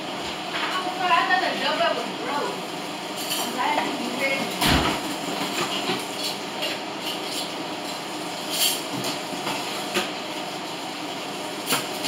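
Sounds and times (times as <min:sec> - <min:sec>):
range hood fan whooshing: 0:00.0 - 0:12.0.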